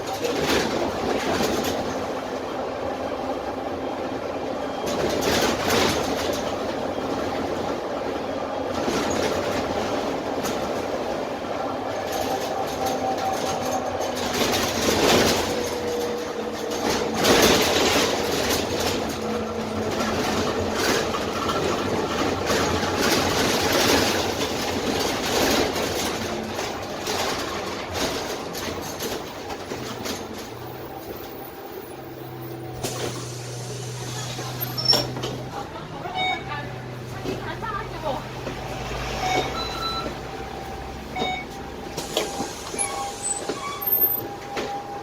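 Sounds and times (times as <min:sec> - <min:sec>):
bus diesel engine: 0:00.0 - 0:45.0
road noise: 0:00.0 - 0:45.0.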